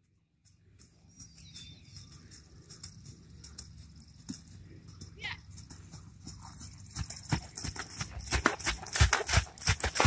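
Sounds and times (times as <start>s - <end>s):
horse trotting on sand: 0.0s - 10.0s.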